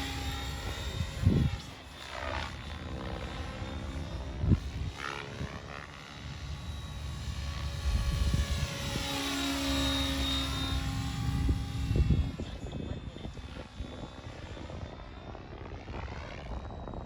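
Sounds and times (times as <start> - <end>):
model helicopter rotor and motor: 0.0 - 17.0.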